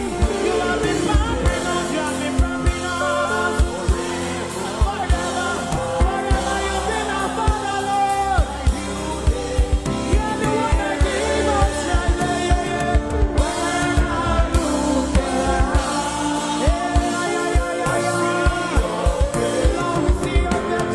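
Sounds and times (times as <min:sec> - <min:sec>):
held chords: 0:00.0 - 0:20.9
low drum beats: 0:00.0 - 0:20.9
worship singing: 0:00.0 - 0:20.9.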